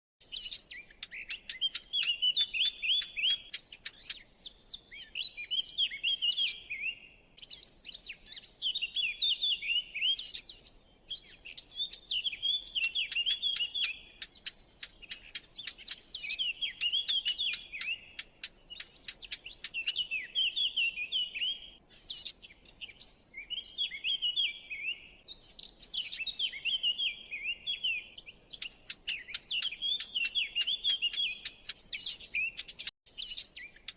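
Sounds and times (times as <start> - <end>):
recorded songbird warbling: 0.2 - 33.9.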